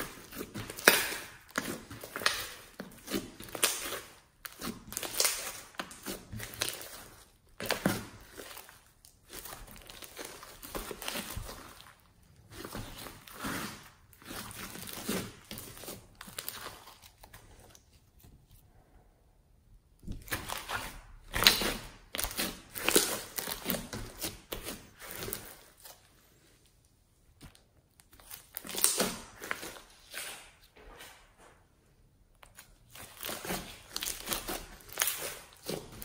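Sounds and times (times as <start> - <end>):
slime crackling and squelching: 0.0 - 18.8, 20.0 - 31.2, 32.4 - 36.0.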